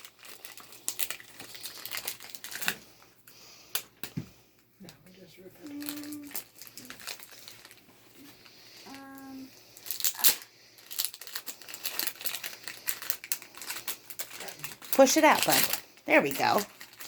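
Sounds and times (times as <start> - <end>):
plastic packaging crinkling and tearing: 0.0 - 4.1, 4.8 - 17.0.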